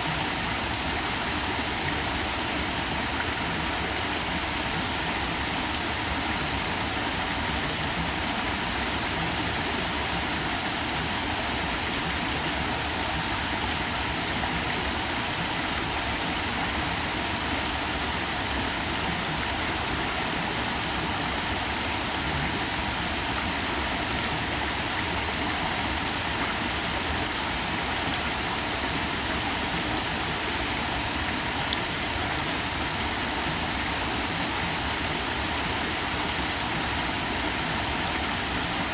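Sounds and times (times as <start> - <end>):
waterfall splashing into pool: 0.0 - 38.9.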